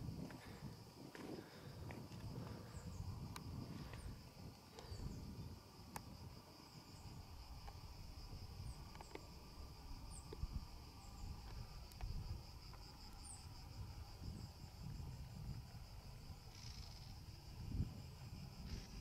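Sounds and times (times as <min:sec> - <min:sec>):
insects chirring: 0:00.0 - 0:19.0
wind rumble on microphone: 0:00.0 - 0:19.0.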